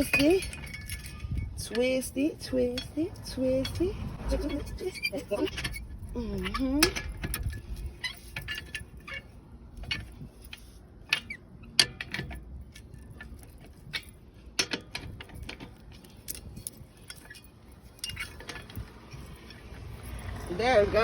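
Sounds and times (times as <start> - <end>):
lug wrench clicking on lug nuts: 0.0 - 20.6.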